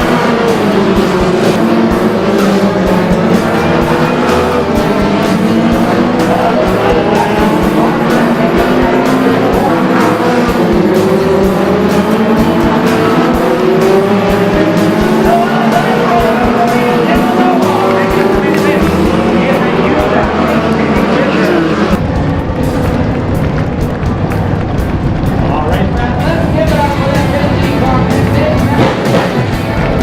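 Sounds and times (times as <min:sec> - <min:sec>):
music with steady beat: 0:00.0 - 0:30.0
race car engines revving: 0:00.0 - 0:30.0.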